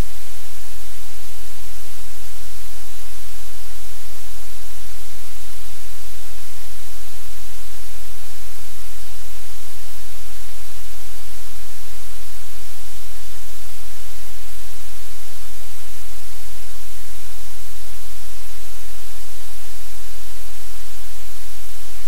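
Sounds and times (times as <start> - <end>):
loud steady hiss: 0.0 - 22.0.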